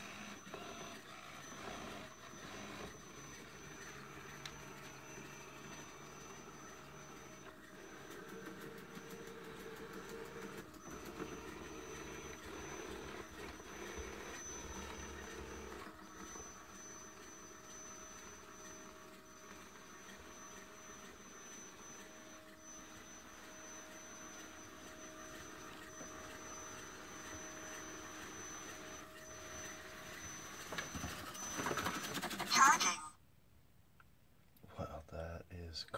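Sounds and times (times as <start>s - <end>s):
robot vacuum motor whir: 0.0s - 32.7s.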